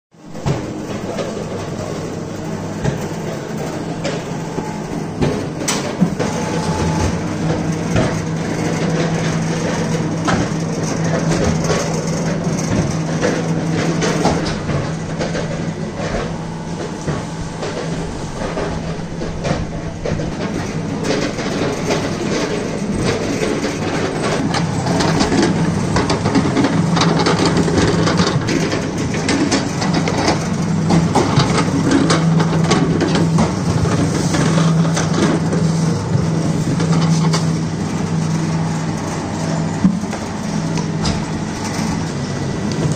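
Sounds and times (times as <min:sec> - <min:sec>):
machinery humming: 0:00.1 - 0:42.9
machinery clanks and knocks: 0:00.2 - 0:42.9.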